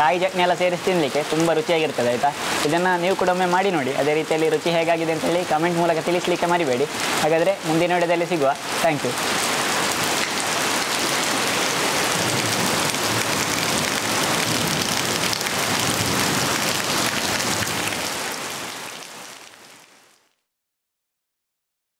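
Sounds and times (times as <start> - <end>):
heavy rain on tiled roofs: 0.0 - 20.4.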